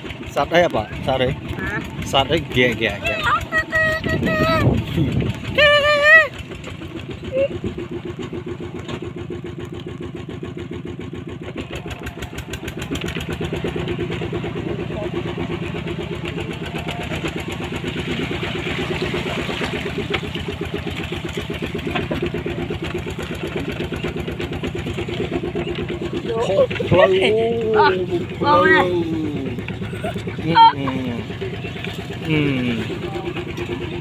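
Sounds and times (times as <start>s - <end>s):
cart engine running: 0.0s - 34.0s.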